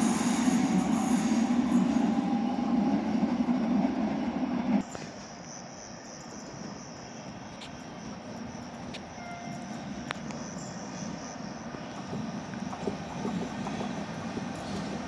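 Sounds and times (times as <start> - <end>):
distant passenger train rumbling: 0.0 - 15.0.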